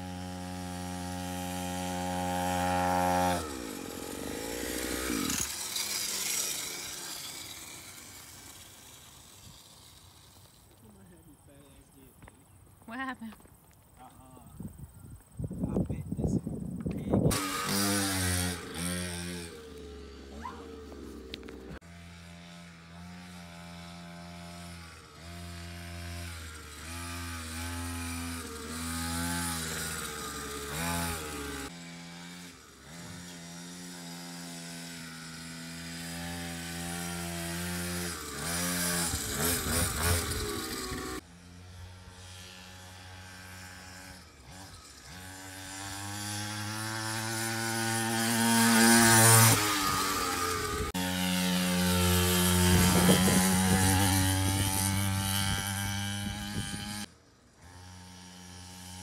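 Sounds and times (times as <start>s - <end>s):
two-stroke dirt bike engine revving: 0.0s - 11.2s, 17.1s - 59.0s.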